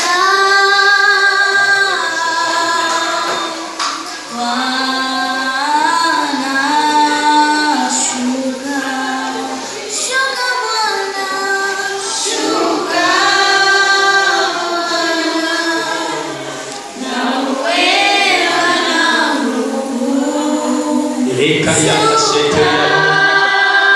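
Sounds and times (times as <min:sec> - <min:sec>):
women singing a hymn: 0:00.0 - 0:23.9.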